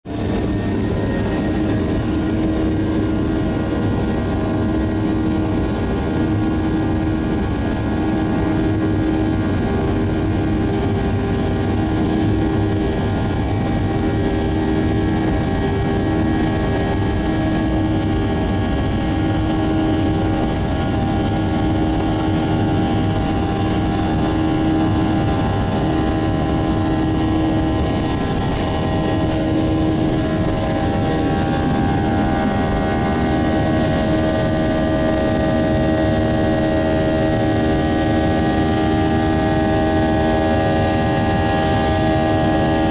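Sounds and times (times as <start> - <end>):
jet engines droning: 0.1 - 42.9.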